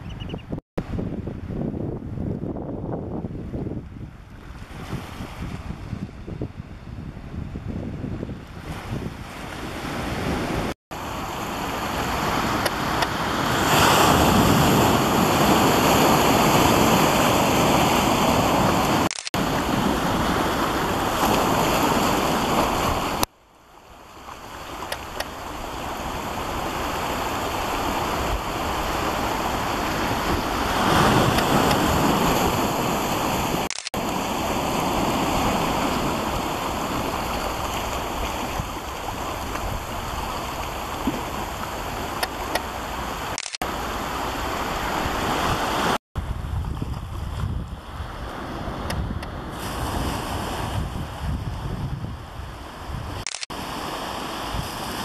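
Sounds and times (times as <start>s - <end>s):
wind on microphone: 0.0s - 23.3s, 24.3s - 55.0s
sea surf: 4.2s - 55.0s.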